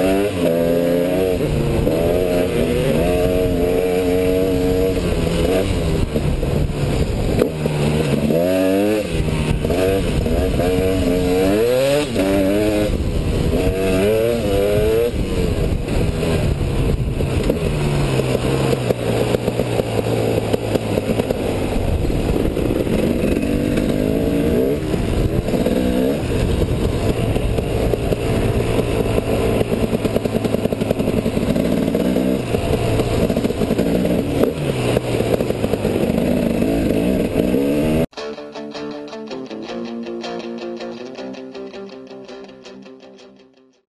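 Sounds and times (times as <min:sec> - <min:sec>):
two-stroke motorcycle engine revving: 0:00.0 - 0:38.2.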